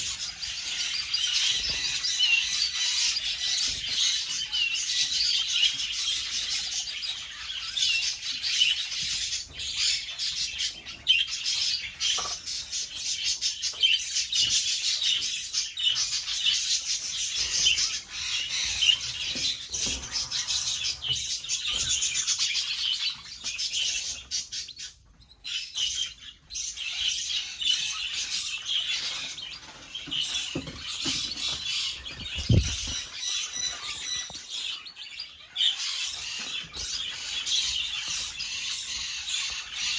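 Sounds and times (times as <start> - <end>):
canaries chirping and trilling: 0.0 - 39.9.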